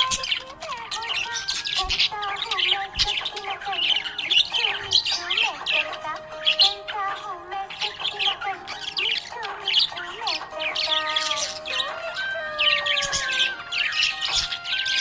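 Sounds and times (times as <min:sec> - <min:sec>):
budgie chirping: 0:00.0 - 0:15.0.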